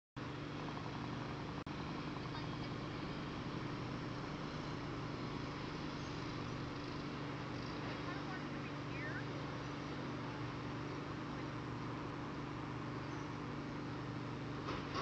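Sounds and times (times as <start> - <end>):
constant low hum: 0.2 - 15.0.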